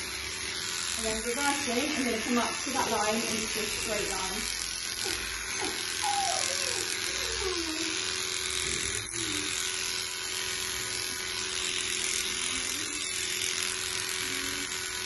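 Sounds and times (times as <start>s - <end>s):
electric clippers running: 0.0s - 15.0s.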